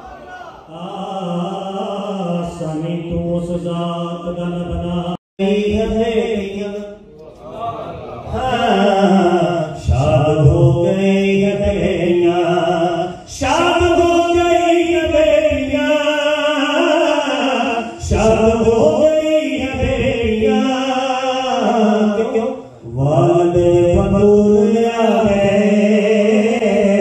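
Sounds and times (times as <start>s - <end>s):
man singing through microphone: 0.7s - 7.0s, 8.3s - 27.0s.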